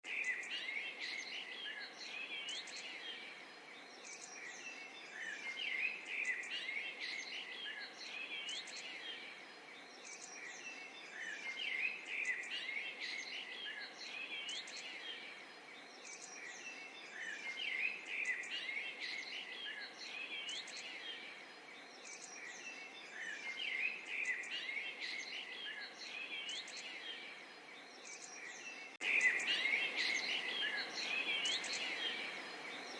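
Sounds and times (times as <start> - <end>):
small birds chirping: 0.0 - 32.9
light outdoor hiss: 0.1 - 32.9.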